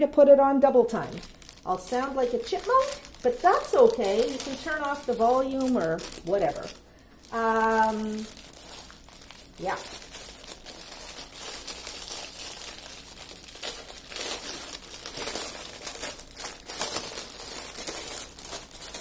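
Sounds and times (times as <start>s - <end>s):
plastic packaging crinkling: 0.8s - 19.0s.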